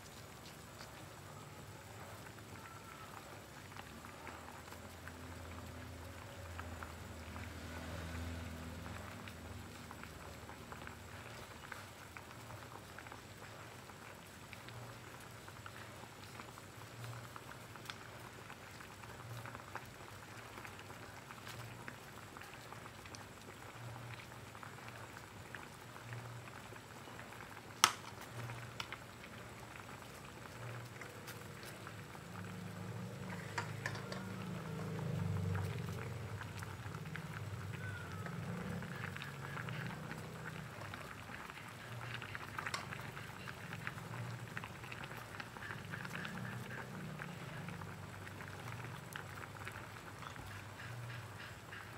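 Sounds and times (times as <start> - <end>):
water boiling in a pot: 0.0 - 51.9.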